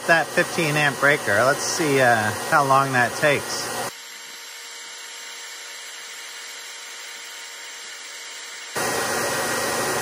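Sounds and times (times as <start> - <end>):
hair dryer hissing: 0.0 - 10.0.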